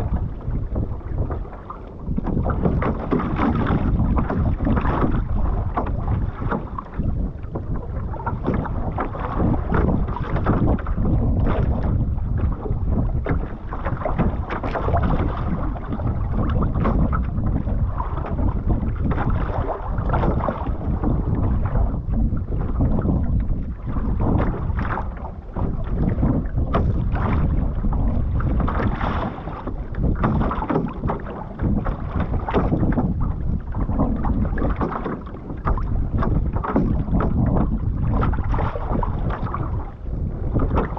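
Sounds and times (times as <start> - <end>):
water splashing against canoe hull: 0.0 - 40.9
wind buffeting microphone: 0.0 - 40.9.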